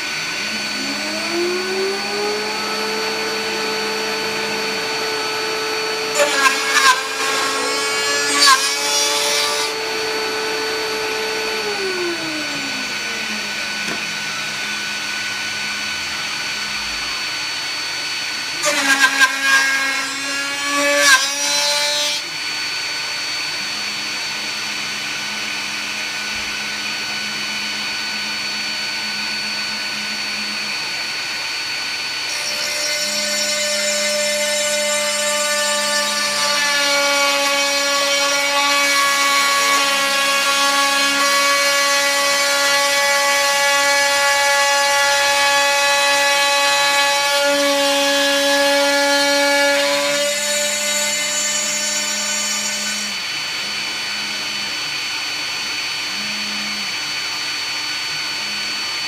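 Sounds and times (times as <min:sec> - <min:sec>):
milling wood cutting noise: 0:00.0 - 0:59.0
router spindle whining: 0:00.0 - 0:59.0.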